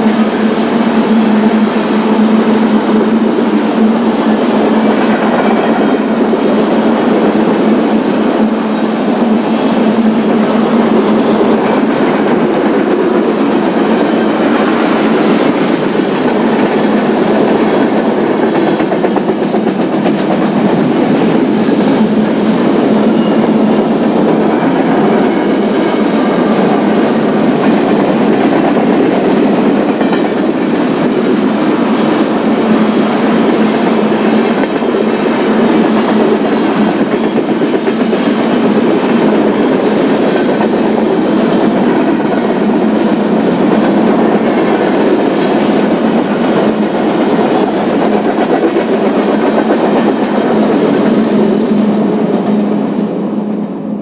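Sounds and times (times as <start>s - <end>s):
train wheels clattering over rail joints: 0.0s - 52.8s.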